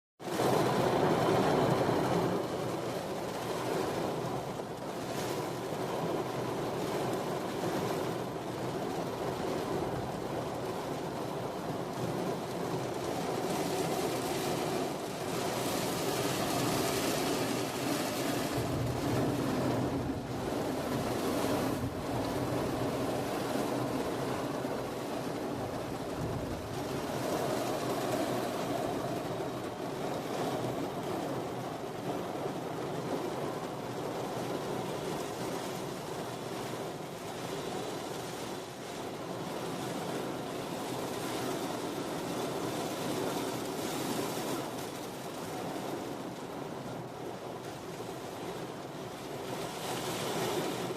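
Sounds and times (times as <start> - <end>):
heavy rain on a car: 0.2 - 50.9.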